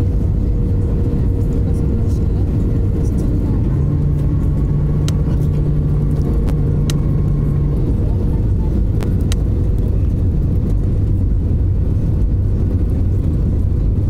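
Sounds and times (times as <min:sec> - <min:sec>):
jet engines roaring: 0:00.0 - 0:14.0
steady hum: 0:00.0 - 0:14.0.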